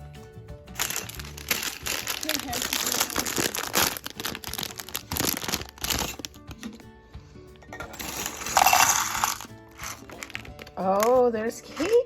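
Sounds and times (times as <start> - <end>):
quiet background music: 0.0 - 12.0
small plastic pieces clattering: 0.8 - 6.7, 8.0 - 12.0
plastic bag crinkling: 0.8 - 6.8, 8.0 - 12.0.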